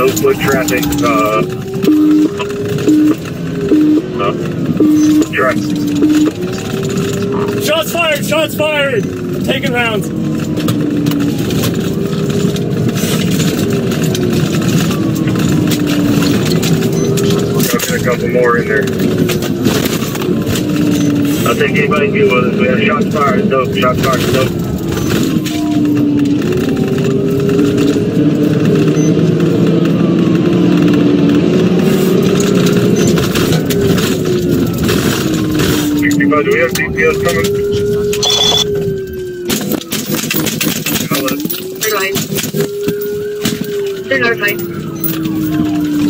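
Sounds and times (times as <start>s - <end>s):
car engine and road noise inside: 0.0s - 46.0s.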